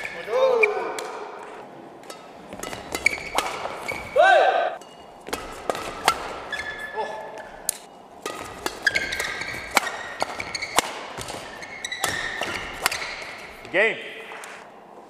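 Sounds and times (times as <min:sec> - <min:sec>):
badminton racket hitting shuttlecock: 0:00.0 - 0:04.2, 0:04.8 - 0:13.7
shoes squeaking on court: 0:00.0 - 0:04.2, 0:04.8 - 0:14.7.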